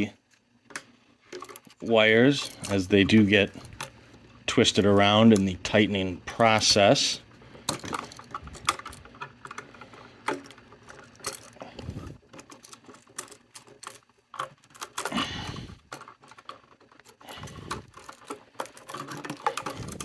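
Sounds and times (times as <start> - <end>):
metallic clicks and scrapes of wires: 0.7 - 20.0.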